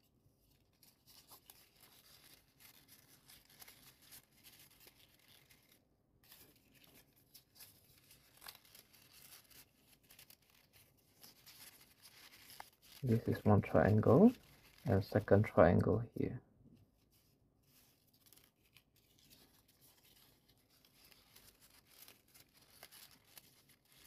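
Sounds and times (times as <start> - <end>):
paper rustling and ticking: 0.4 - 16.0, 16.8 - 24.0.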